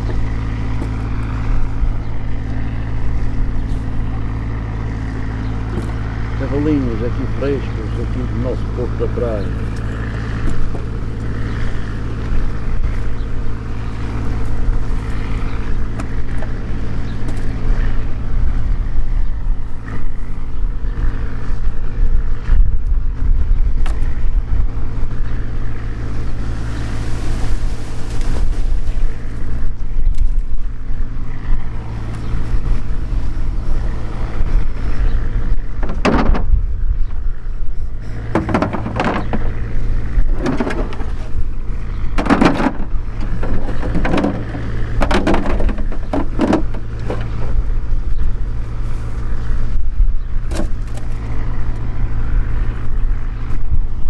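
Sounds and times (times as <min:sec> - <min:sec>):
engine idling: 0:00.0 - 0:30.0, 0:30.6 - 0:53.8
low rumble: 0:00.0 - 0:54.0.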